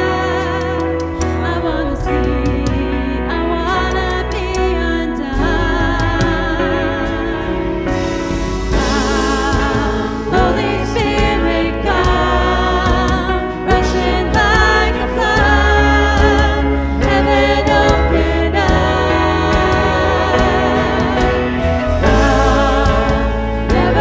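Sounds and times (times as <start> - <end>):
instrumental accompaniment: 0.0 - 24.0
voices singing worship song: 0.0 - 24.0.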